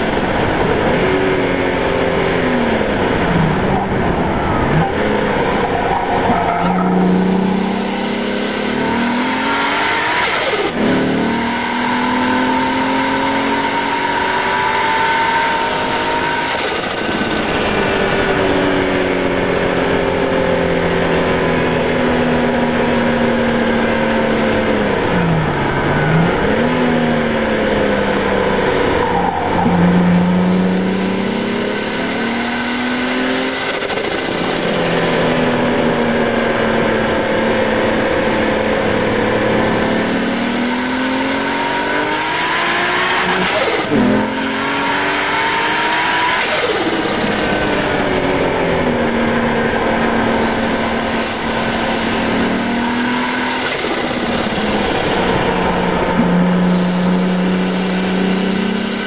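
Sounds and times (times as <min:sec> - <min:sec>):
turbo whine: 0:00.0 - 0:20.3, 0:21.8 - 0:59.0
car engine revving: 0:00.0 - 0:59.0.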